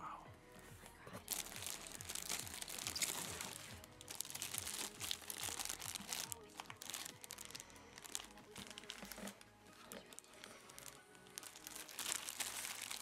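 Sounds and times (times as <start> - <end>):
faint music: 0.0 - 13.0
plastic bag crinkling: 1.1 - 13.0.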